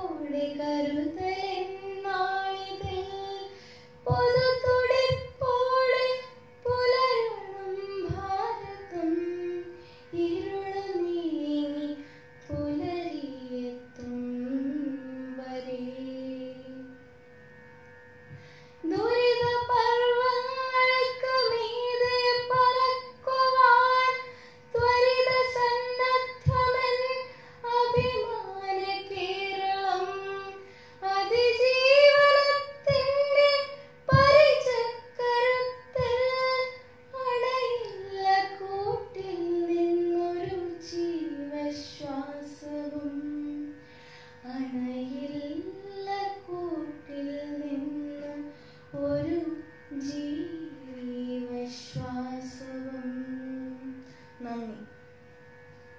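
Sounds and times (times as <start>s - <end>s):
girl singing: 0.0s - 17.0s, 18.8s - 43.7s, 44.4s - 54.8s.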